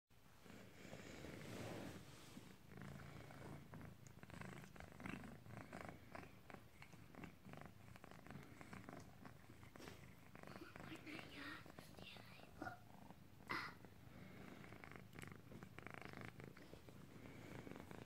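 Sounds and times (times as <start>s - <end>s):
kitten purring: 0.3s - 18.0s.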